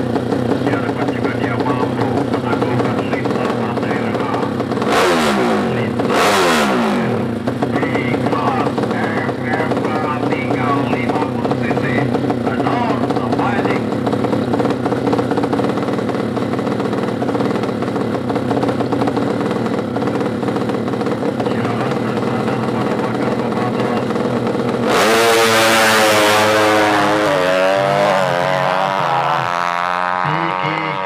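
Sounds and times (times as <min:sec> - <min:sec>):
drag racing motorcycle engine: 0:00.0 - 0:31.0.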